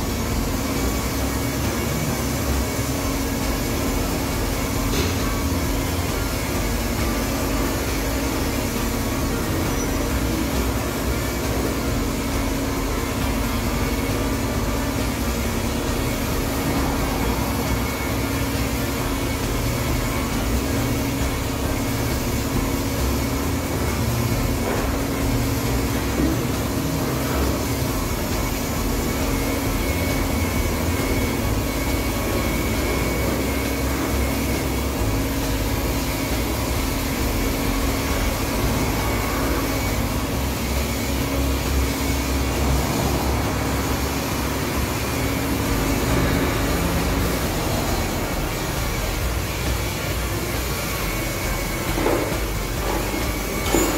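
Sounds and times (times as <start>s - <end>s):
electric polisher humming: 0.0s - 53.9s.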